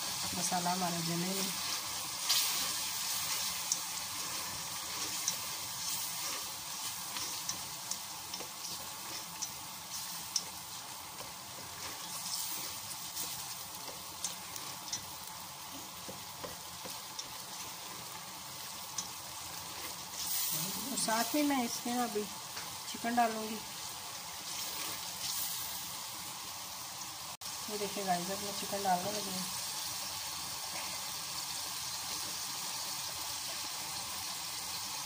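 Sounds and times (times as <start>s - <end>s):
masala sizzling in a pot: 0.0s - 35.0s.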